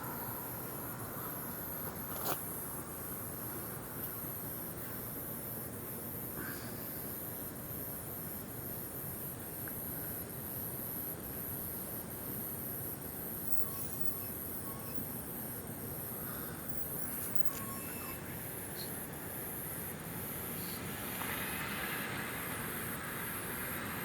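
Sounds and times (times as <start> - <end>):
night insects chorus: 0.0 - 24.0.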